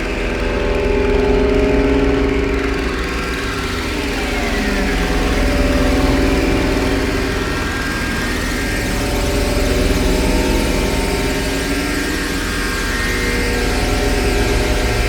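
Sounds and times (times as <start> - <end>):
synthesizer drone: 0.0 - 15.0.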